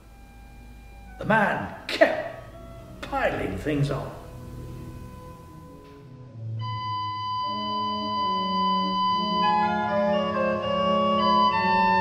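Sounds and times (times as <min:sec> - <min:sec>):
organ playing slow chords: 0:00.0 - 0:12.0.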